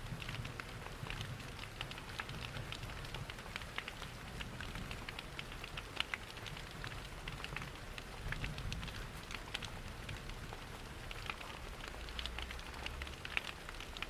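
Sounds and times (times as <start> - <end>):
steady rain: 0.0 - 14.0
wood fire crackling and popping: 0.0 - 14.0.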